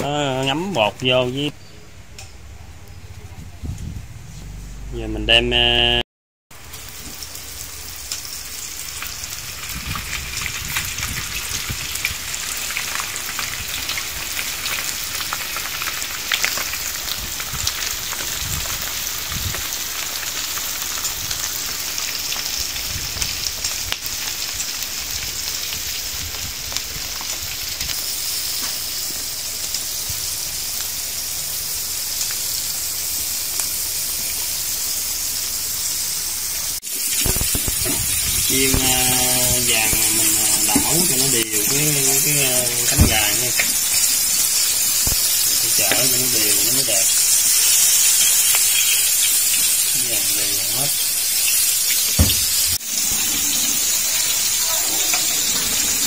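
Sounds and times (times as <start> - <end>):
chicken deep-frying in oil: 6.5 - 56.0.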